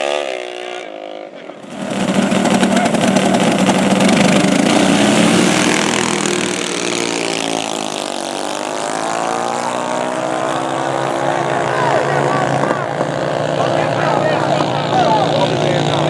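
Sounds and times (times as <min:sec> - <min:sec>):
atv engines at full throttle: 0:00.0 - 0:16.0.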